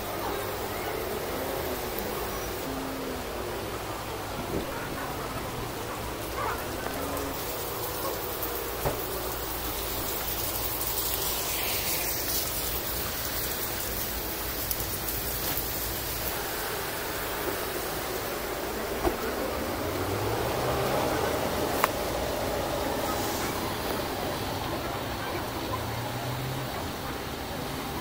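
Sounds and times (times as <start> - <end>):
rain on wet pavement: 0.0 - 28.0.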